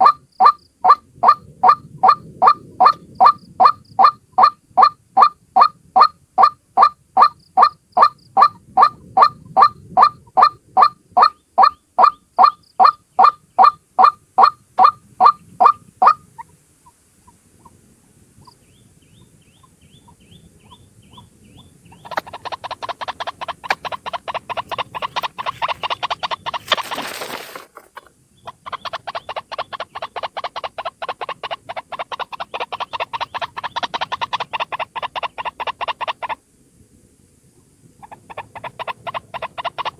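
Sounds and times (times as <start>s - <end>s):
waterhen honking calls: 0.0s - 17.7s, 19.6s - 27.0s, 28.0s - 36.4s, 38.0s - 39.9s.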